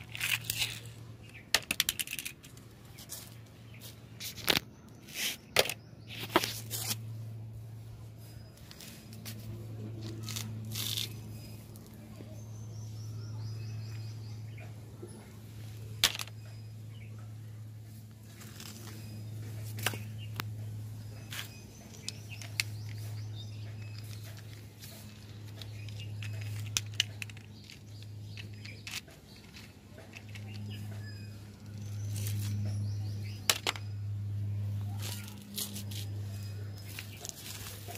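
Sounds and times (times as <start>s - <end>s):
dry leaves crackling on concrete: 0.0s - 14.4s, 15.2s - 37.9s
low hum: 5.8s - 37.9s.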